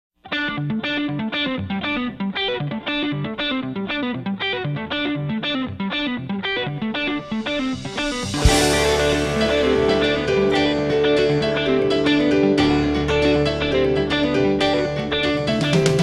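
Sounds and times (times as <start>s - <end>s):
electric guitar picking: 0.2s - 16.0s.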